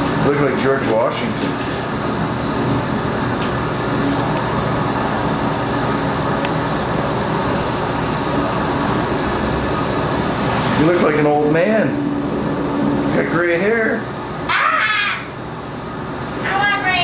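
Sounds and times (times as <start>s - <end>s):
bathtub jets churning water: 0.0s - 14.1s.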